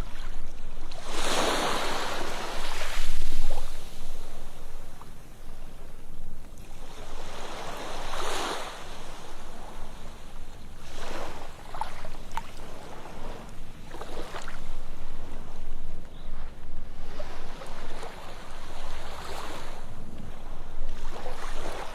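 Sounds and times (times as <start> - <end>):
low rumble of surf: 0.0 - 21.9
ocean waves breaking on beach: 0.0 - 21.9.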